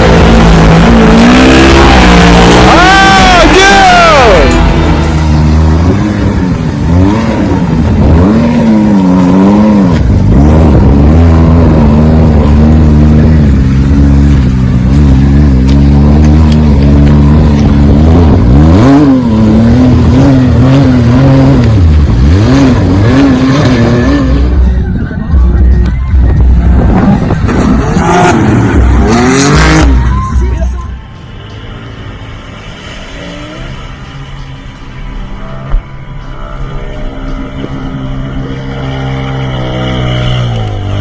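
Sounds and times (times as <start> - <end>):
off-road vehicle engine revving: 0.0 - 24.8, 25.4 - 30.8, 35.4 - 41.0.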